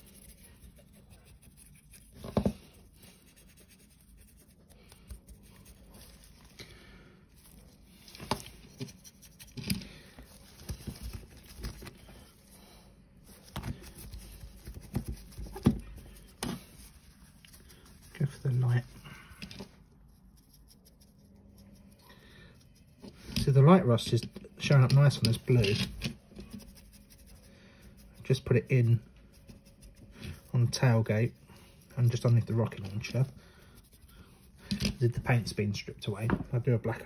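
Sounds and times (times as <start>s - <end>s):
stiff brush scrubbing: 0.0s - 35.8s.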